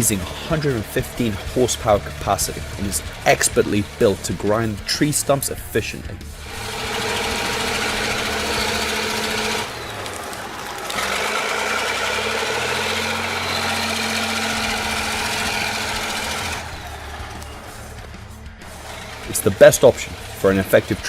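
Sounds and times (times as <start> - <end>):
stump grinder running: 0.0 - 21.0.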